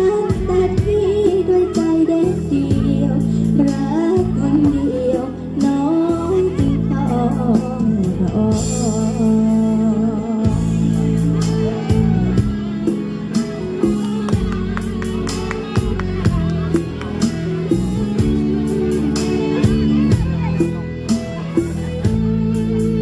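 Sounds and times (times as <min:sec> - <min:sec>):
instrumental guitar bass and drums: 0:00.0 - 0:23.0.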